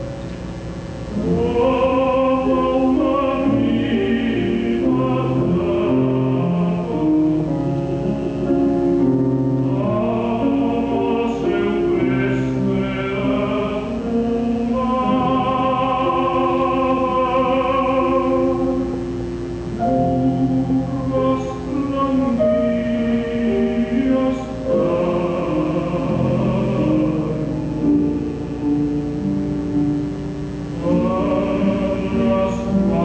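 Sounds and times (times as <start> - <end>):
piano accompaniment: 0.0 - 33.0
tenor singing: 0.0 - 33.0.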